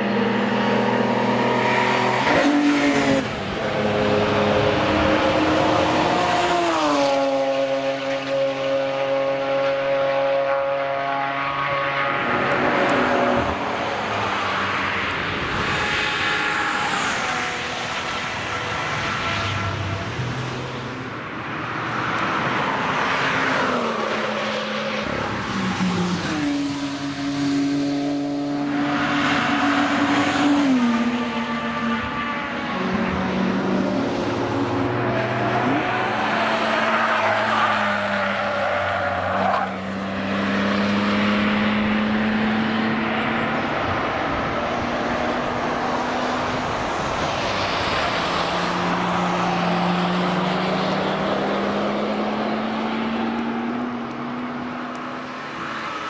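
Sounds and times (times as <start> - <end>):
cars racing past: 0.0 - 56.0.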